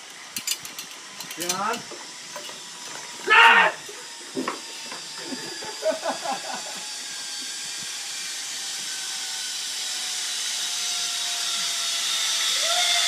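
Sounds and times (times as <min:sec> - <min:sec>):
zip-line trolley on cable: 0:00.0 - 0:13.0.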